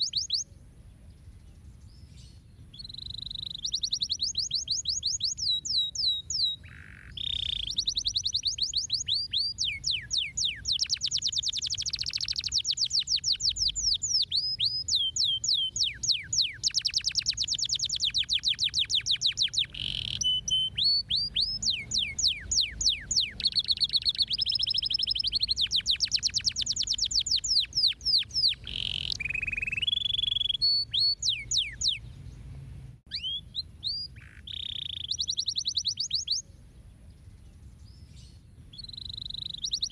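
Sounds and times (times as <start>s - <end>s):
canary singing: 0.0s - 0.5s, 1.1s - 32.5s, 33.1s - 39.9s.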